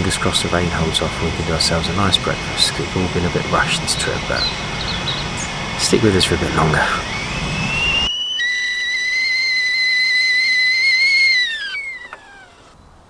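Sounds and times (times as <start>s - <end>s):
whistling kettle: 0.0s - 12.6s.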